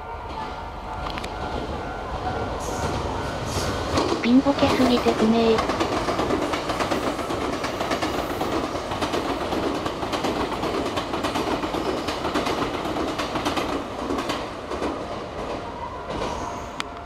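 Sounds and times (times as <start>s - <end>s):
train wheels clattering over rails: 0.3s - 17.0s.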